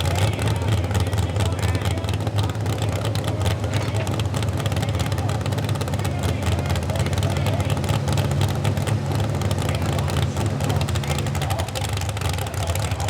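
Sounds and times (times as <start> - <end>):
truck engine running hard: 0.0 - 13.0.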